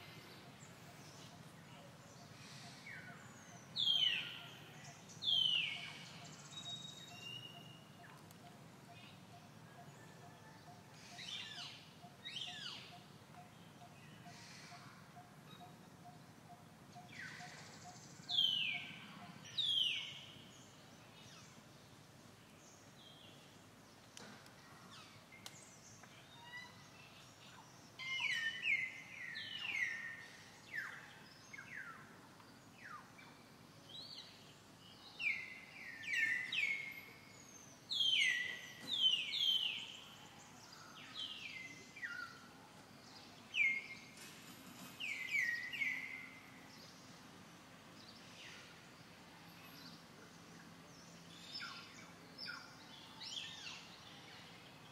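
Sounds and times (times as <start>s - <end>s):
faint outdoor background noise: 0.0s - 54.9s.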